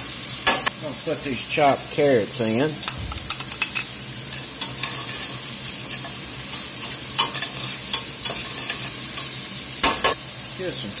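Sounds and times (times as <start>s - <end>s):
vegetables sizzling in pot: 0.0s - 11.0s.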